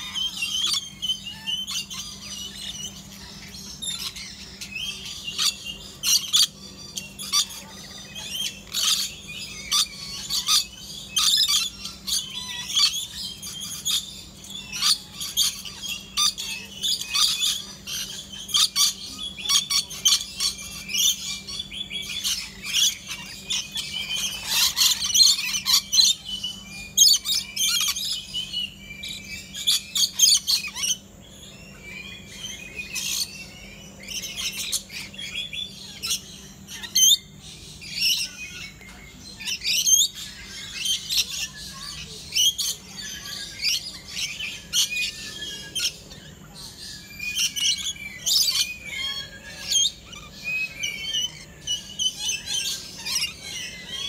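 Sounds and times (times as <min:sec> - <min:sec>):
lorikeets chattering and squawking: 0:00.0 - 0:54.0.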